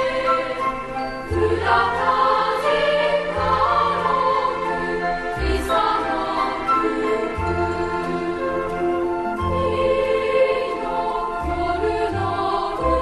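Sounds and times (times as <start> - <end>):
choir singing held chords: 0.0 - 13.0.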